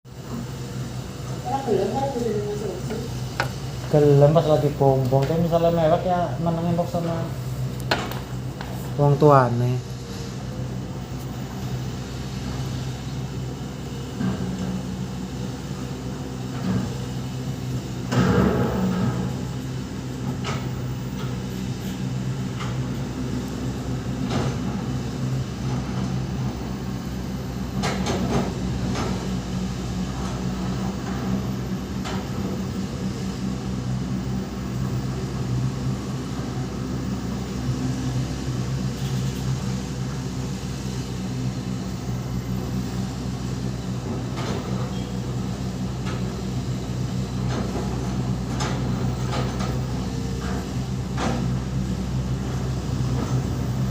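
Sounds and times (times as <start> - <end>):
excavator engine running: 0.1 - 53.9.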